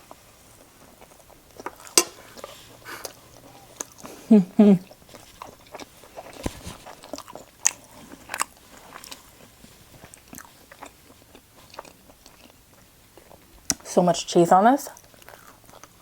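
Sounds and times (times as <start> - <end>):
chewing crunchy toast: 0.1 - 13.9, 14.9 - 16.0.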